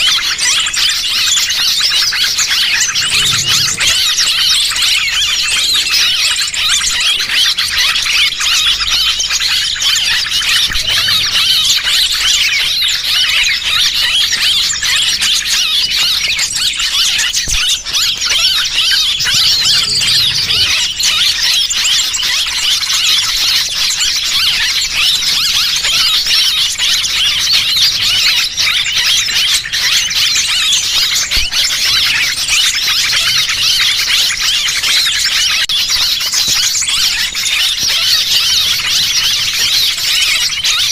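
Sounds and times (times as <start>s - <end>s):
small birds chirping shrilly: 0.0s - 40.9s.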